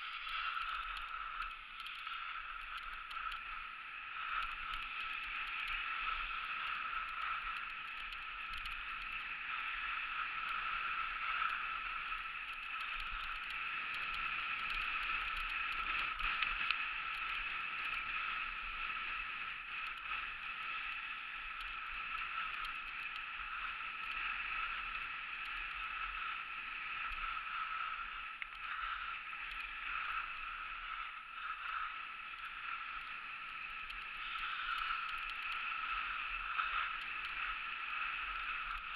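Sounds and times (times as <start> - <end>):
skis hissing over snow: 0.0 - 38.9.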